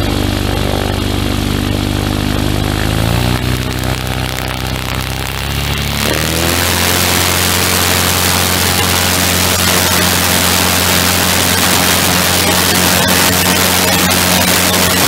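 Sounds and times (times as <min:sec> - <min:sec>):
small craft engine running: 0:00.0 - 0:15.0.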